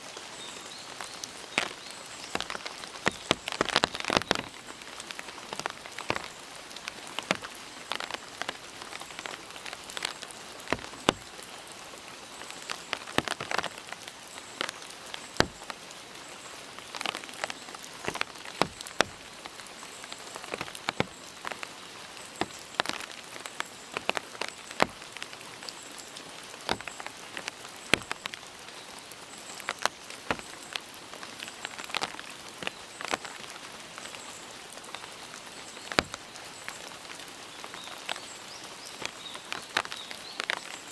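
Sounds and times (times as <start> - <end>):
raindrops ticking close by: 0.0 - 40.9
steady rain hissing: 0.0 - 40.9.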